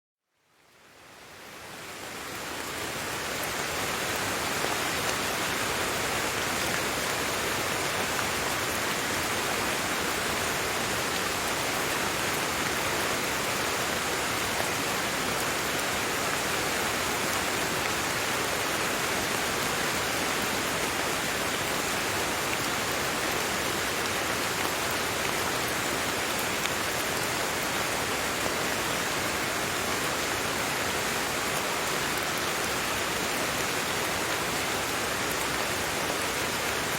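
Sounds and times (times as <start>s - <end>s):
steady rain: 0.3s - 36.9s.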